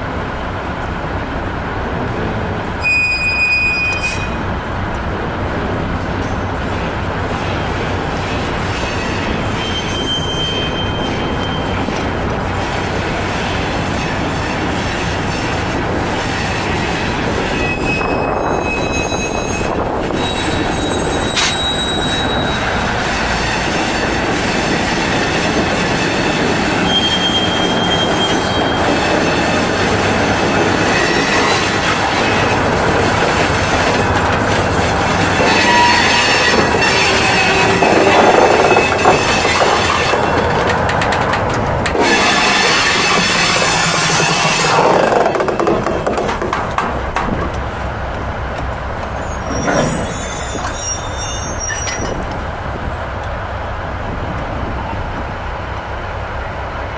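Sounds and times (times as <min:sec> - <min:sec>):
locomotive engine rumbling: 0:00.0 - 0:56.9
wheels squealing on rails: 0:02.6 - 0:04.8, 0:05.9 - 0:48.0, 0:48.6 - 0:53.0.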